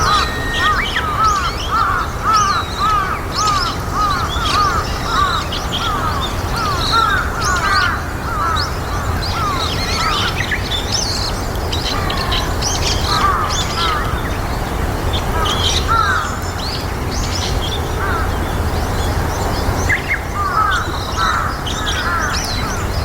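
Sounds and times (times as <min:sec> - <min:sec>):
flock of birds calling: 0:00.0 - 0:23.0.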